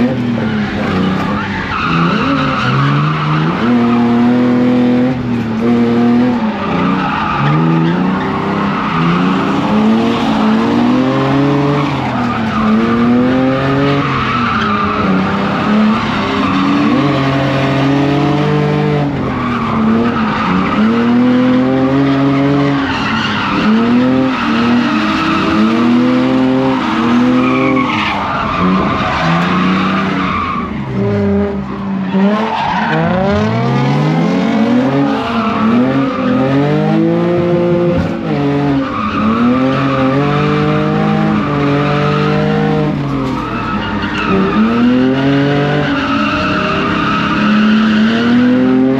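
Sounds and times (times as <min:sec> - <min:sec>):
car engine revving: 0:00.0 - 0:48.9
tyres skidding and squealing: 0:00.0 - 0:48.9.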